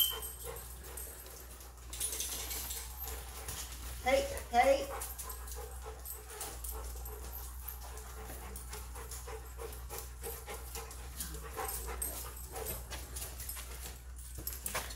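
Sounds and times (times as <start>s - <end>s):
dogs panting: 0.0s - 14.9s.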